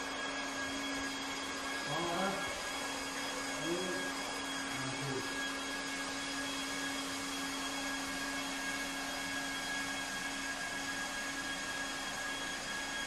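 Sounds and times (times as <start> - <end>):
hot-air welding machine running: 0.0 - 13.0.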